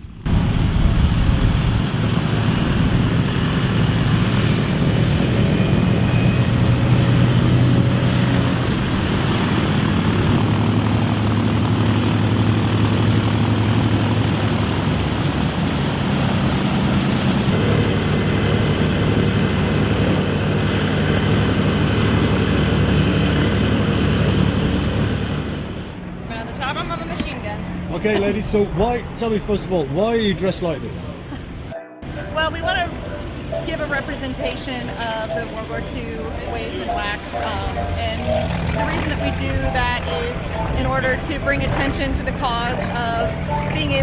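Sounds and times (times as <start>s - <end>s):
propeller plane piston engines: 0.0s - 44.0s.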